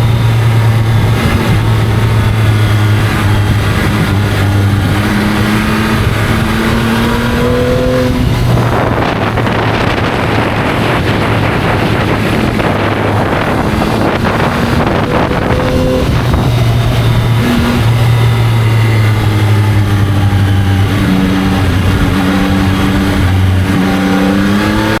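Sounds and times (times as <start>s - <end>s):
motorcycle engine accelerating: 0.0s - 25.0s
wind noise: 0.0s - 25.0s.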